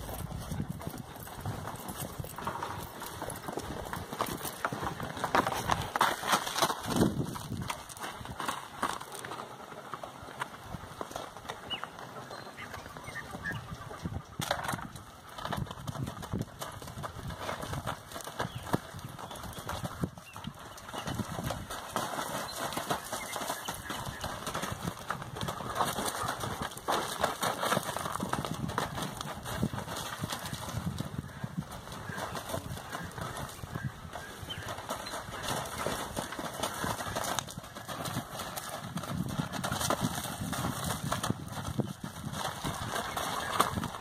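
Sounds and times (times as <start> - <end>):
horse hooves on stony dirt: 0.0 - 44.0.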